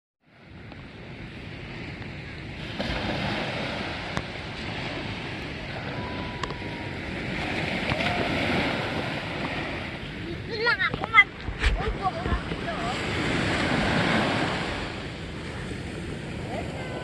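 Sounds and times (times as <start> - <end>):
surf washing up beach: 0.2 - 17.0.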